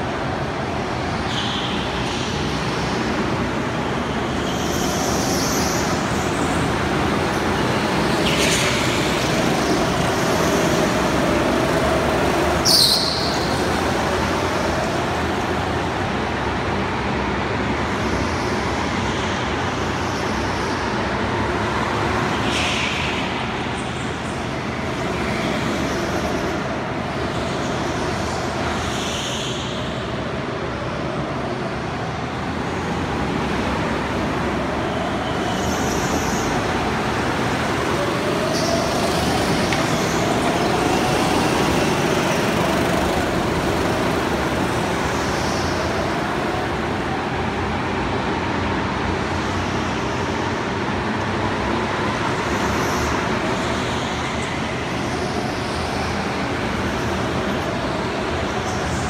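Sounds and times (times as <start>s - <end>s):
go-kart motors: 0.0s - 59.0s.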